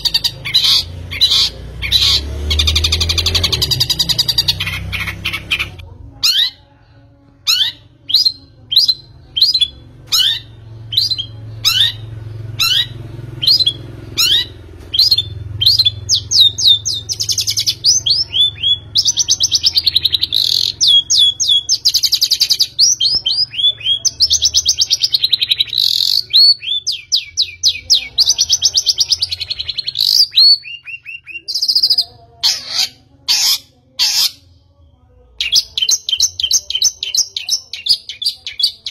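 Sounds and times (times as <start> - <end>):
bird chirping: 0.0 - 6.6, 7.4 - 34.8, 35.4 - 38.9.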